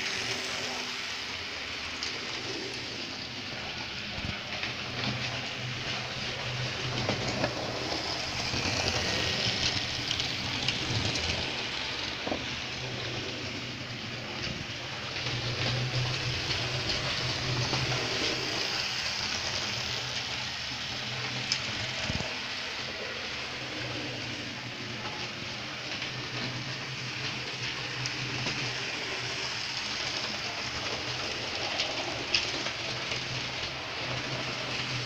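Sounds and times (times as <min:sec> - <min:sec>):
model train motor hum: 0:00.0 - 0:35.0
wheels rattling over rail joints: 0:00.0 - 0:35.0.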